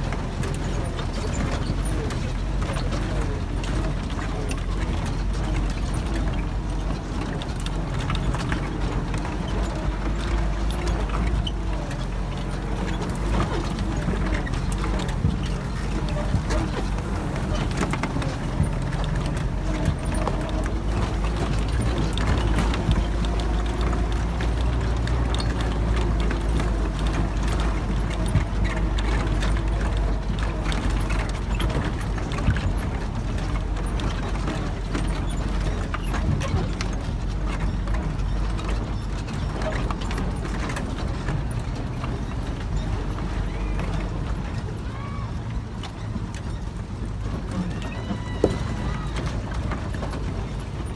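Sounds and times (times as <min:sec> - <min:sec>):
off-road vehicle engine running: 0:00.0 - 0:50.9
vehicle clattering and rattling: 0:00.0 - 0:50.9.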